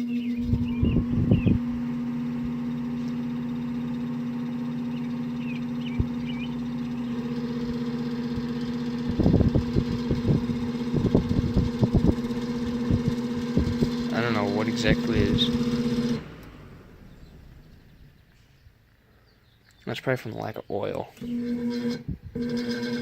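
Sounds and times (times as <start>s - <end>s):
fan motor humming: 0.0s - 18.3s, 21.1s - 23.0s.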